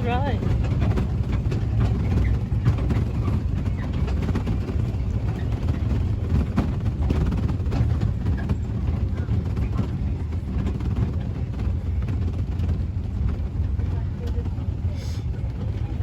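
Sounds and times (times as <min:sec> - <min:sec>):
small train rumbling: 0:00.0 - 0:16.0.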